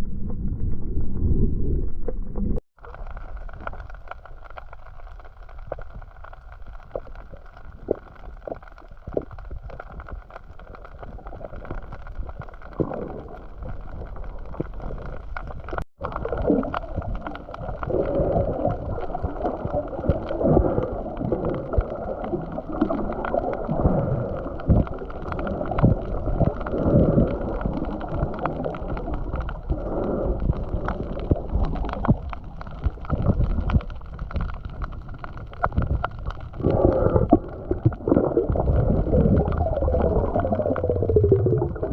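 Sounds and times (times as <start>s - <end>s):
muffled underwater gurgling: 0.0s - 41.9s.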